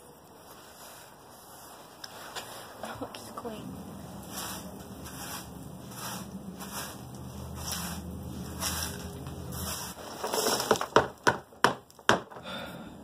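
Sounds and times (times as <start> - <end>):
broom scraping on concrete: 0.3 - 11.0.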